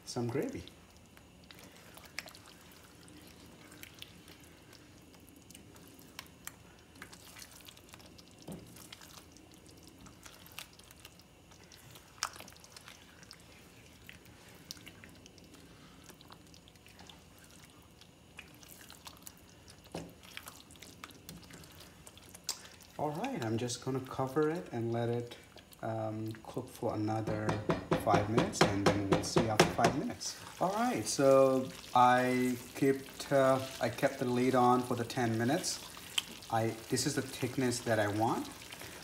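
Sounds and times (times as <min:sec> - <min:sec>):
wet squelching of curry: 0:00.5 - 0:26.6, 0:30.2 - 0:39.0.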